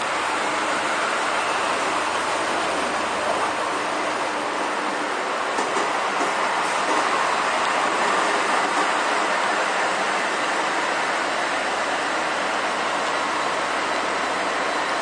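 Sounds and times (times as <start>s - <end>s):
train rumbling along platform: 0.0s - 15.0s.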